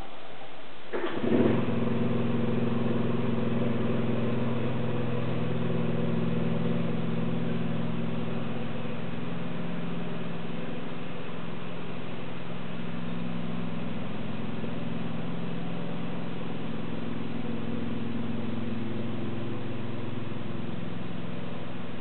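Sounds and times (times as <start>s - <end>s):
engine starting and running: 0.9s - 22.0s.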